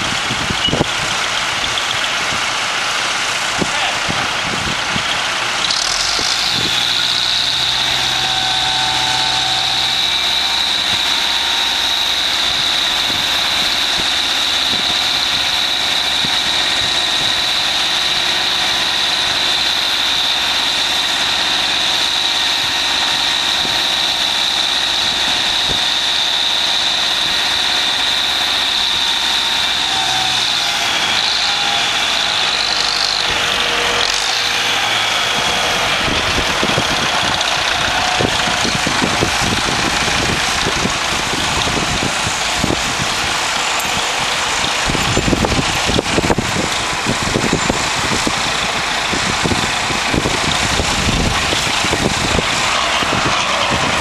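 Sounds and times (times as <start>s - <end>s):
hydraulic high whine: 0.0s - 54.0s
tractor engine running: 0.0s - 54.0s.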